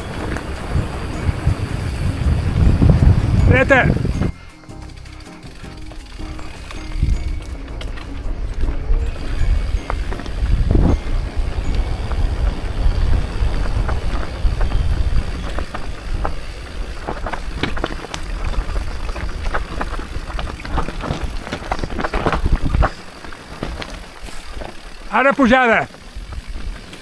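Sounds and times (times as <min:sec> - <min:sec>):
wind rumble on microphone: 0:00.0 - 0:04.5, 0:06.3 - 0:24.8
bike clattering over bumpy ground: 0:00.0 - 0:27.0.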